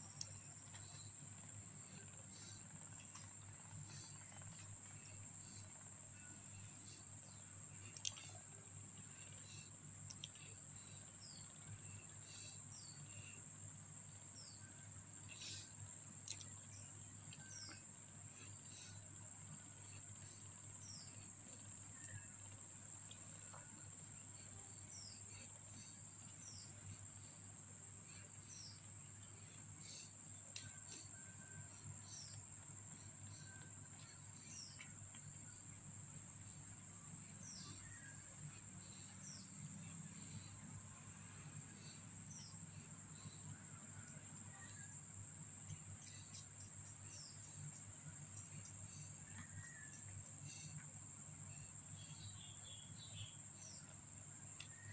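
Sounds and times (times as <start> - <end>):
insect drone: 0.0 - 54.9.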